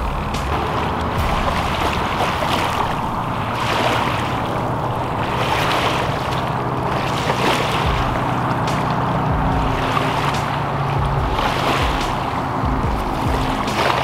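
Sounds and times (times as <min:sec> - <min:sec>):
small waves lapping: 0:00.0 - 0:14.0
wind on microphone: 0:00.0 - 0:14.0.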